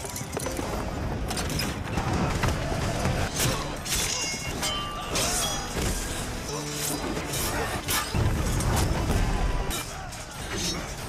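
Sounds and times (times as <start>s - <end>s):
battle film music: 0.1s - 11.0s.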